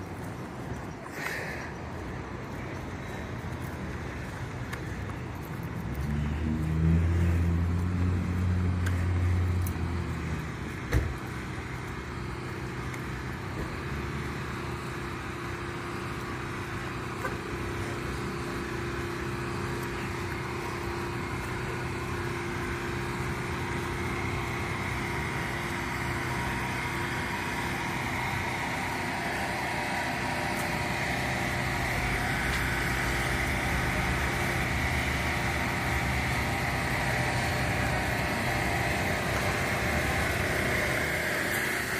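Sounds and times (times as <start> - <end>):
road traffic engines: 0.0 - 41.9.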